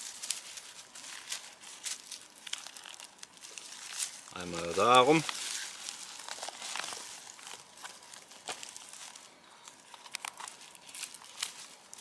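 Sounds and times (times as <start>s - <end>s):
bark and stems crinkling: 0.0s - 12.0s
small crackles and clicks: 0.0s - 12.0s.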